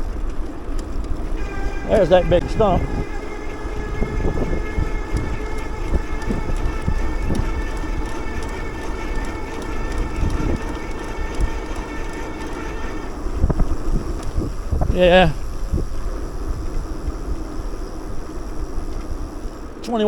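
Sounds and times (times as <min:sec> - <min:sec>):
low road rumble: 0:00.0 - 0:20.0
steady high whine: 0:00.0 - 0:20.0
wind buffeting microphone: 0:00.0 - 0:20.0.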